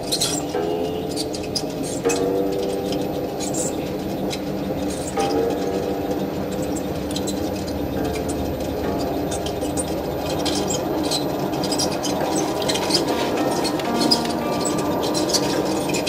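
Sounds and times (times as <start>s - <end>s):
potter's wheel humming: 0.0s - 16.0s.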